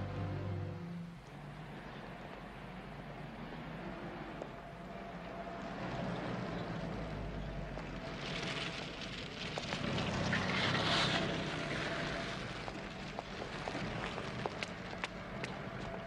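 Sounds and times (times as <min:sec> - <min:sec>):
car tyres on cobblestones: 0:00.0 - 0:16.0.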